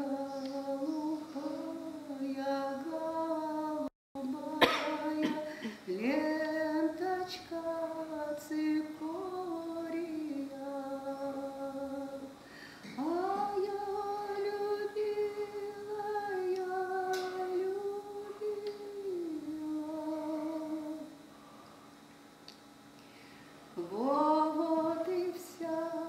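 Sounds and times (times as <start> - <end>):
woman singing slow melody: 0.0 - 21.2, 23.8 - 26.0.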